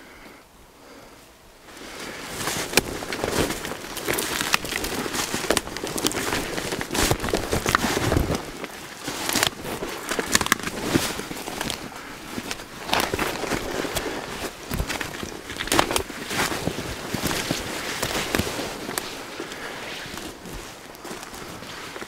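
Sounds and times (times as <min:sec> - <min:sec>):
constant rustle: 0:00.0 - 0:22.0
branches scraping clothing: 0:01.0 - 0:22.0
twigs snapping underfoot: 0:01.7 - 0:22.0.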